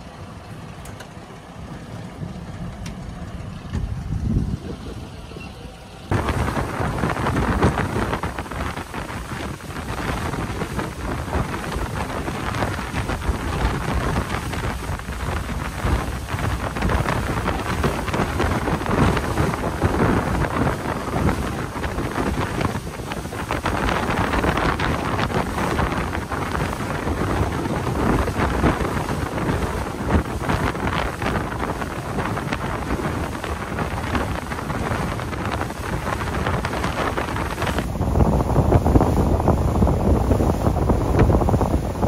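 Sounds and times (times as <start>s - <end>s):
water splashing against hull: 0.6s - 42.0s
wind buffeting microphone: 1.8s - 42.0s.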